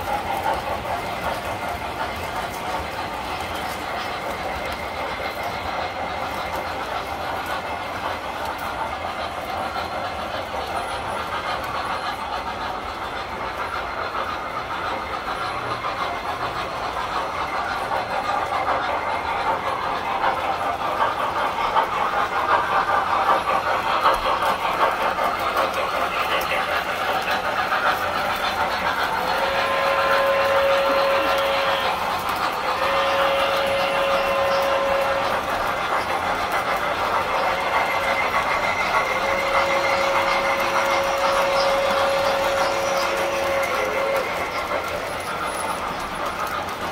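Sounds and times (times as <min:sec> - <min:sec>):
toy train wheels rattling: 0:00.0 - 0:46.9.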